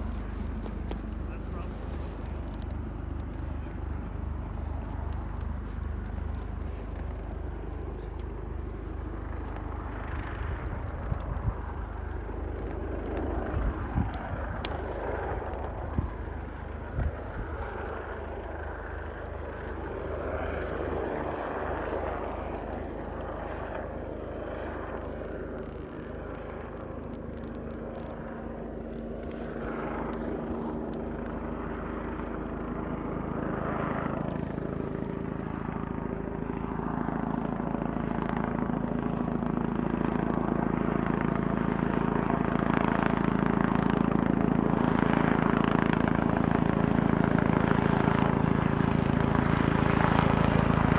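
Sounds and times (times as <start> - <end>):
helicopter rotor and engine: 0.0 - 50.9.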